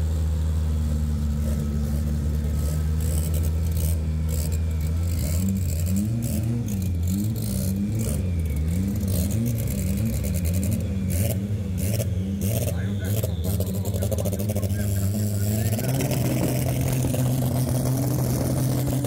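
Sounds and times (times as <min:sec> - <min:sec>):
race car engine revving: 0:00.7 - 0:19.0.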